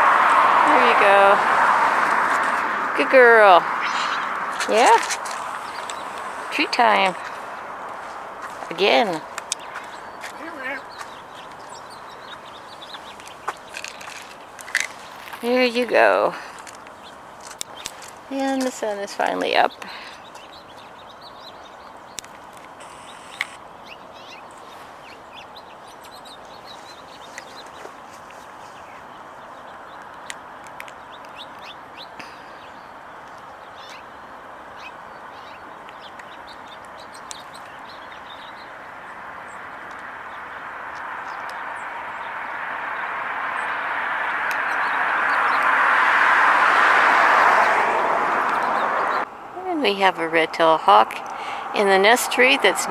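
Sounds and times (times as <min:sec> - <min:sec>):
outdoor background hiss: 0:00.0 - 0:52.9
small birds chirping: 0:00.0 - 0:52.9.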